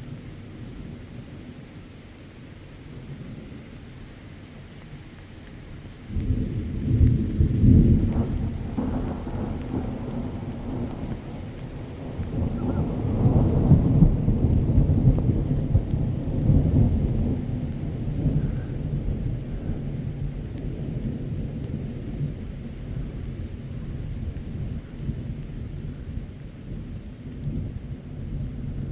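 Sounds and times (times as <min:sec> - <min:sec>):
steady rain: 0:00.0 - 0:28.9
thunder rumbling: 0:04.9 - 0:28.9.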